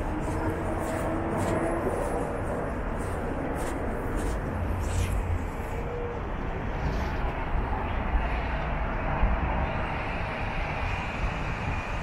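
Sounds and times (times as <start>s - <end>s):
traffic rumble: 0.0s - 12.0s
urban hum: 0.0s - 12.0s.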